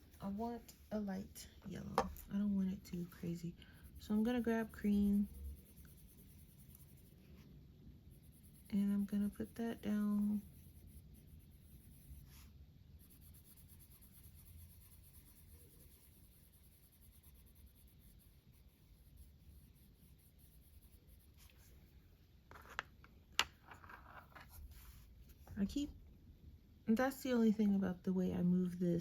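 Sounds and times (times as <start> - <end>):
colored pencil scratching on paper: 0.2 - 21.9, 23.6 - 25.8.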